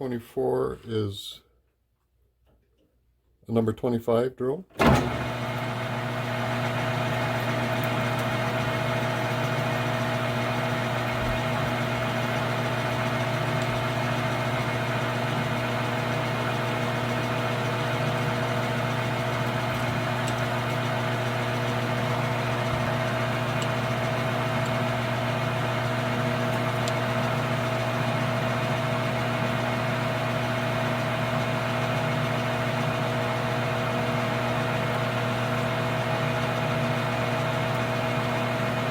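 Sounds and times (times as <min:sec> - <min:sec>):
metal lathe humming: 0:04.8 - 0:38.9.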